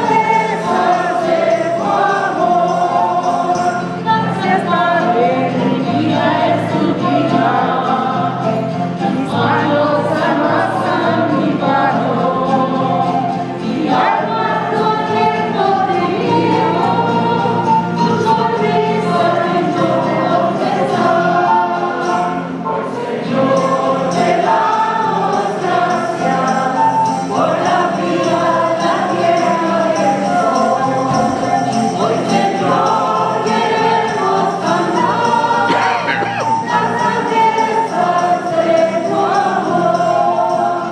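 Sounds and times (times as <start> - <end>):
church choir singing a hymn: 0.0 - 40.9.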